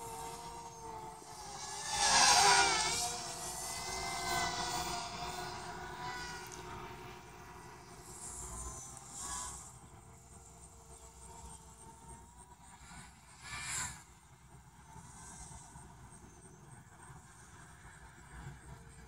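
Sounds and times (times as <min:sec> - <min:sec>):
quadcopter propellers whirring: 0:00.0 - 0:19.0.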